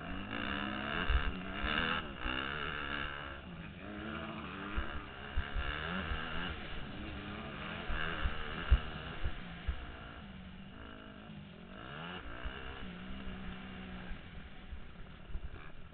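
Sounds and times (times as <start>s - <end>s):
motocross bike engine revving: 0.0s - 15.9s.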